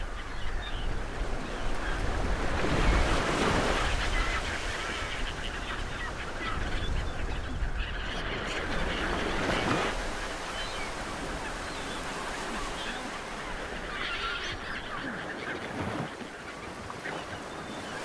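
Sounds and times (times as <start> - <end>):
ocean waves washing on shore: 0.0 - 7.5, 8.4 - 18.0.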